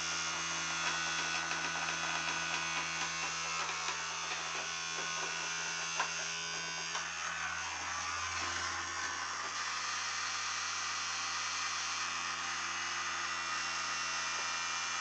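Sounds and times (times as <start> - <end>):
toothbrush motor buzzing: 0.0 - 15.0.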